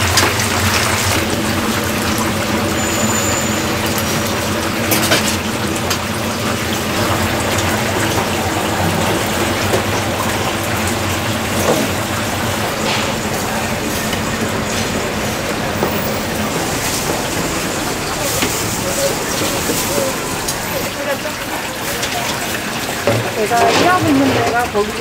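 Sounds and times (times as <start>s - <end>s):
oil sizzling and popping: 0.0s - 25.0s.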